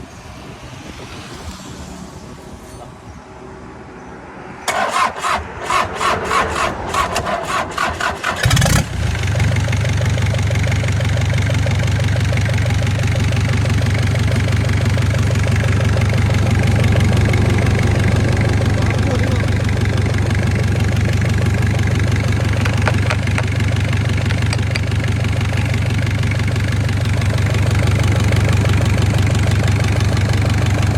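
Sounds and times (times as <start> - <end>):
starter cranking engine: 4.7 - 30.9
truck engine idling: 4.7 - 30.9.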